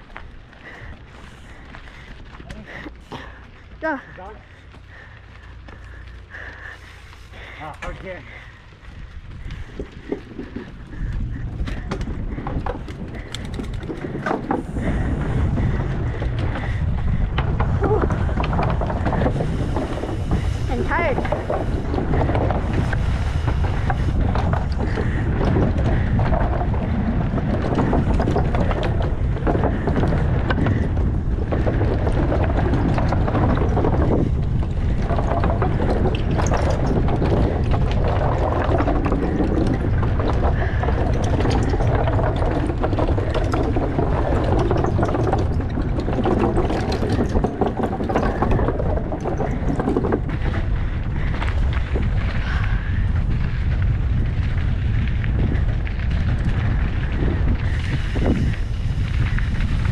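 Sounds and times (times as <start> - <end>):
bike rattling over wooden boards: 0.0 - 59.9
tyres rolling on rocky dirt: 0.0 - 59.9
wind rush on microphone: 0.0 - 59.9.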